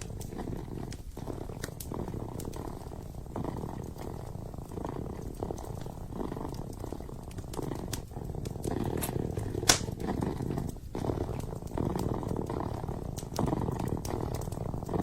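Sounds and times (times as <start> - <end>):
fireplace crackling: 0.0 - 15.0
kitten purring: 0.0 - 15.0.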